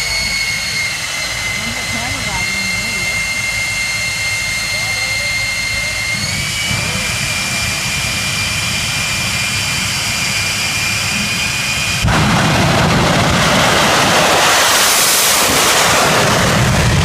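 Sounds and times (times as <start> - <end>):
jet engine whine and blast: 0.0 - 17.0.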